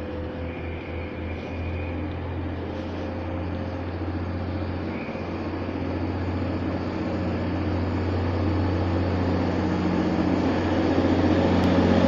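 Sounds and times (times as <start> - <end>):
diesel train engines droning: 0.0 - 12.0.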